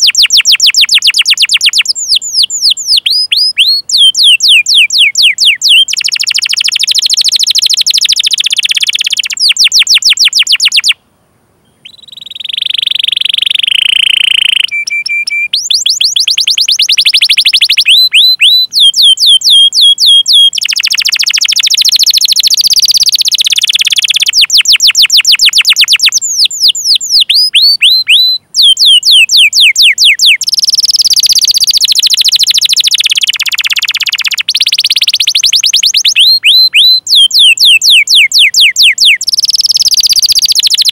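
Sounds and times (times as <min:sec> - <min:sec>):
canary singing: 0:00.0 - 0:11.0, 0:11.6 - 0:40.9.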